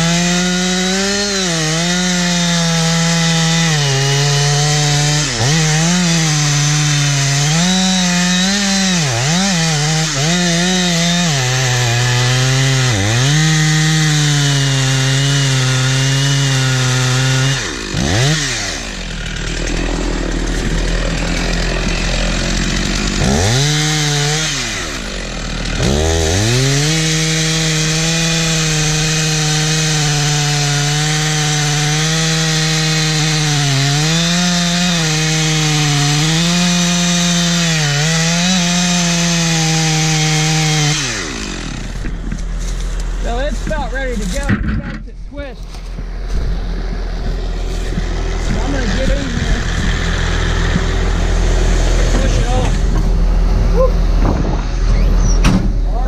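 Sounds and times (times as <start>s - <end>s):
chainsaw cutting tree trunk: 0.0s - 45.0s, 45.6s - 55.8s.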